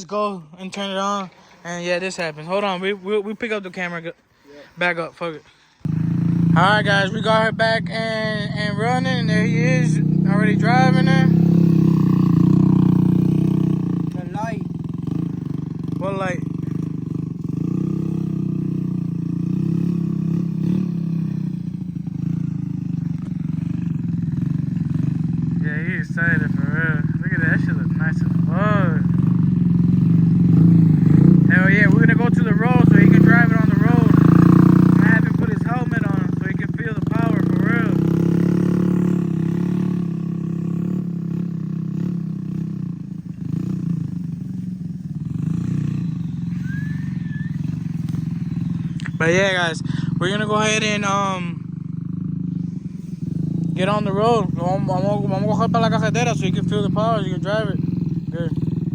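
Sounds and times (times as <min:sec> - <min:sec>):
moped engine running: 0:05.6 - 0:58.9.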